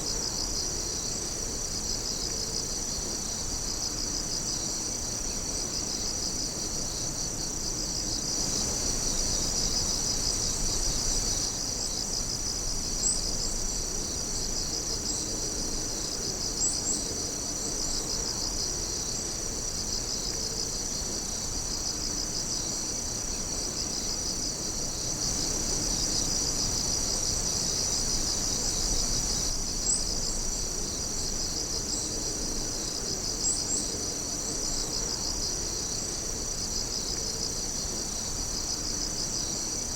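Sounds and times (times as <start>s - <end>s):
night insects chirring: 0.0s - 39.9s.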